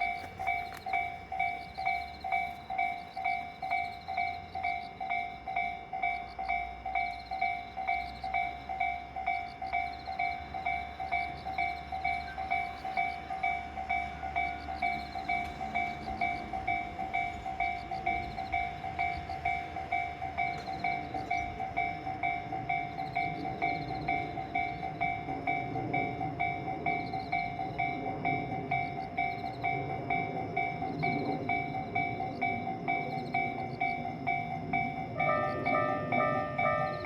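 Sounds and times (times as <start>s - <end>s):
level-crossing alarm ringing: 0.0s - 37.0s
passing train rumble: 0.0s - 37.0s.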